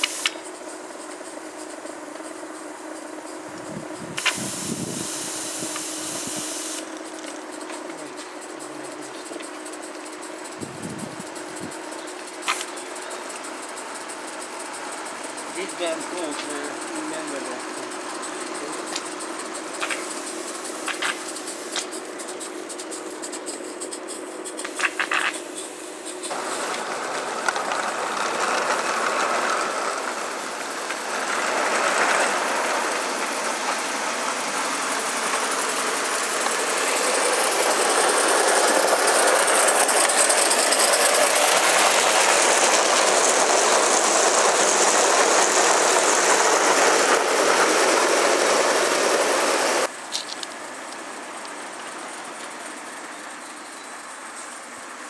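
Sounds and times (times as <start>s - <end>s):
hissing steam exhaust: 0.0s - 55.0s
wheels rattling on track: 0.0s - 55.0s.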